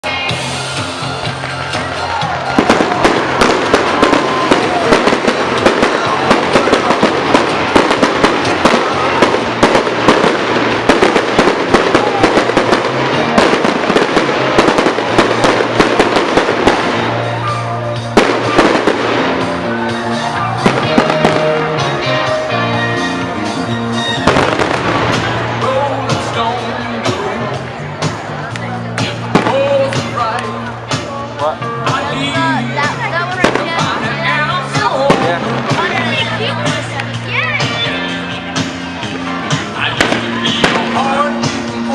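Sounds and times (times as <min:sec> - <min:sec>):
music playing: 0:00.0 - 0:41.9
fireworks banging and crackling: 0:00.6 - 0:31.0, 0:32.8 - 0:37.9, 0:38.5 - 0:41.9.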